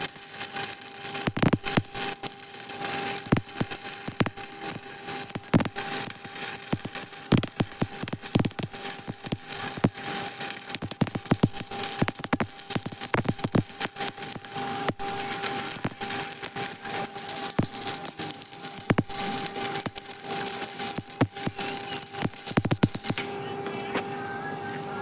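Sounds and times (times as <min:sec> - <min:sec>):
welding arc crackling: 0:00.0 - 0:23.3
faint steady whine: 0:00.0 - 0:25.0.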